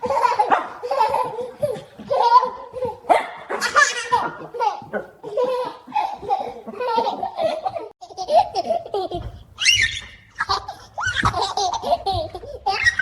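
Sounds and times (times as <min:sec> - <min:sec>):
baby laughing and squealing: 0:00.0 - 0:13.0.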